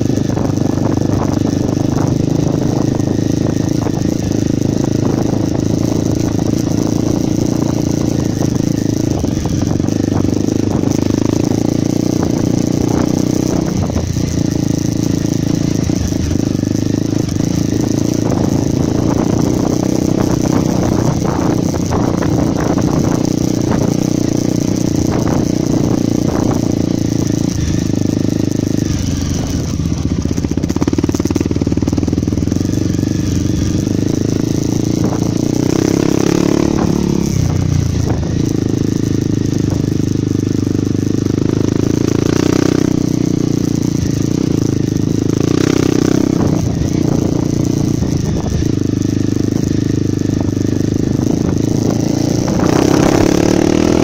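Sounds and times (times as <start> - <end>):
knocks and rattles from bike: 0.0 - 54.0
motorcycle engine under load: 0.0 - 54.0.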